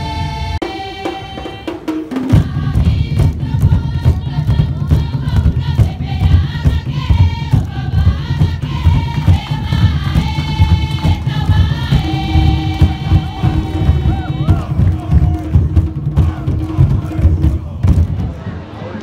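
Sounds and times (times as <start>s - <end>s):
heavy drums beating: 0.0s - 18.5s
group chanting and singing: 0.0s - 18.6s.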